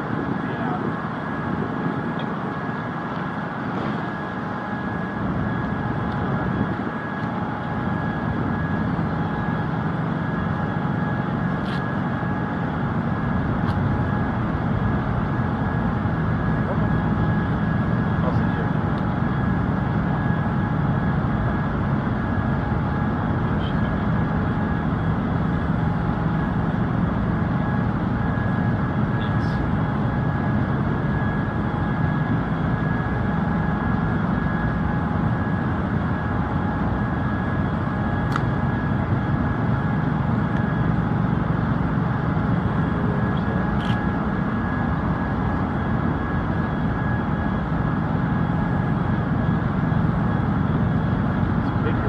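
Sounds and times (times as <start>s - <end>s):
machine drone with whine: 0.0s - 52.0s.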